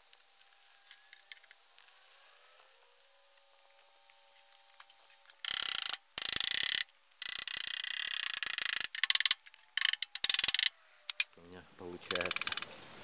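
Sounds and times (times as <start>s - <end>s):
welding arc crackling: 0.0s - 11.3s, 12.0s - 13.0s.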